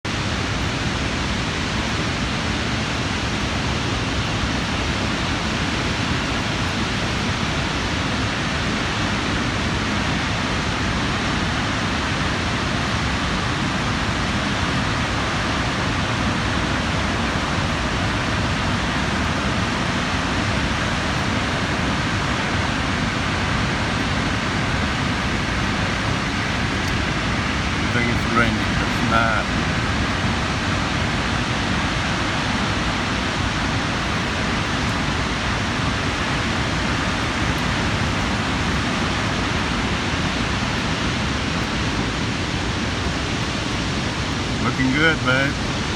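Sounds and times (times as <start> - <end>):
waterfall rushing: 0.1 - 45.9.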